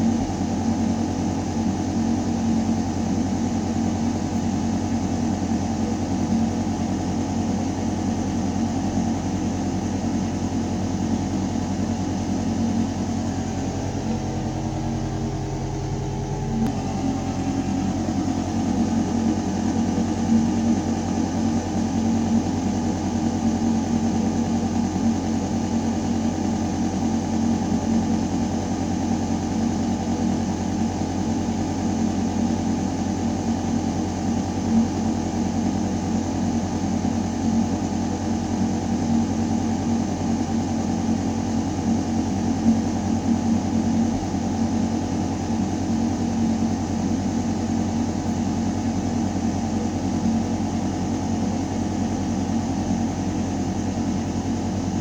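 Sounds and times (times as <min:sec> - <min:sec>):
ventilation system hum: 0:00.0 - 0:55.0.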